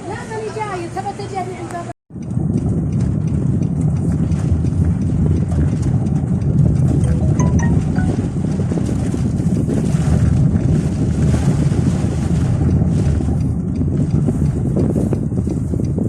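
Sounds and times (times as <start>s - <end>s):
strong wind on microphone: 2.1s - 16.0s.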